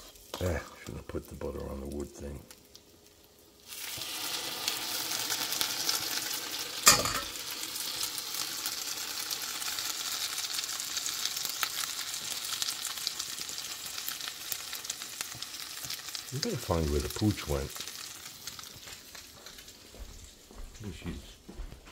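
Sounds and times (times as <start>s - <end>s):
bread sizzling in a skillet: 0.0s - 20.4s.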